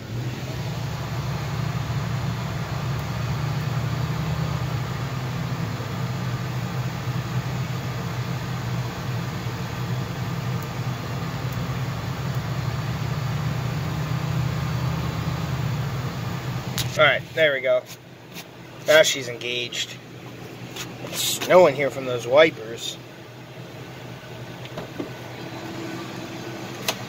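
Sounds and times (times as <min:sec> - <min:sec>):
bus engine idling: 0:00.0 - 0:27.0.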